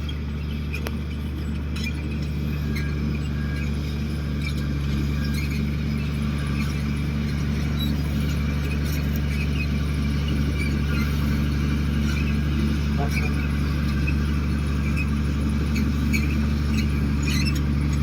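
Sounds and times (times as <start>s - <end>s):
bulldozer diesel engine droning: 0.0s - 18.0s
faint high squeaks: 0.0s - 18.0s.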